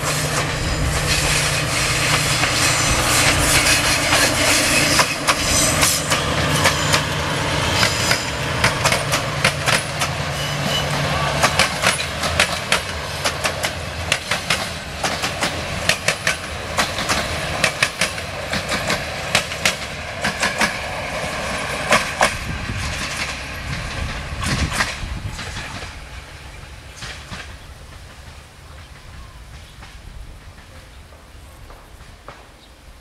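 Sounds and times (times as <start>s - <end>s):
train wheels clacking over rail joints: 0.0s - 32.6s
train rumble: 0.0s - 33.0s.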